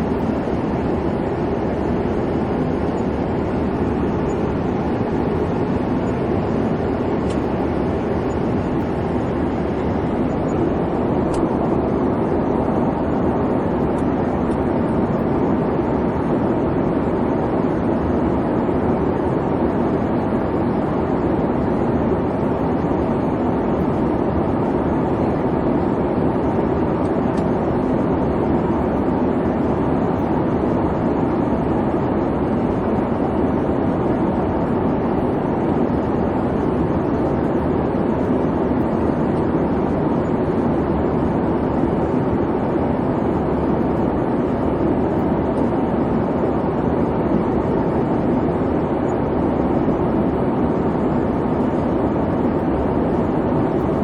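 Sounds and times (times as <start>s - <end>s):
airplane cabin engine hum: 0.0s - 54.0s.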